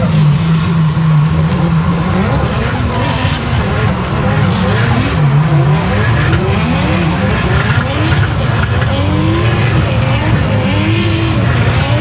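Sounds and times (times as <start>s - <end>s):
turbocharged engine revving hard: 0.0s - 12.0s.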